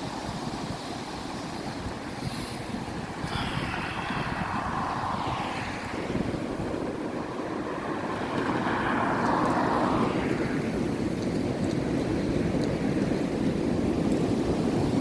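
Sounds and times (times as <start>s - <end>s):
strong gusty wind: 0.0s - 15.0s
wind rumble on microphone: 0.0s - 15.0s.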